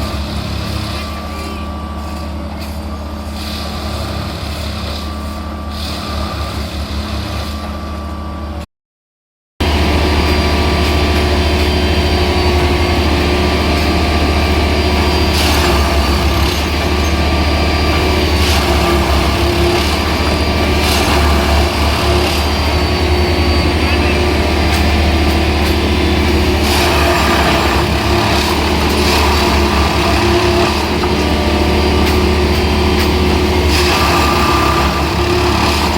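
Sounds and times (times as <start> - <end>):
heavy diesel engine humming: 0.0 - 8.6, 9.6 - 35.9.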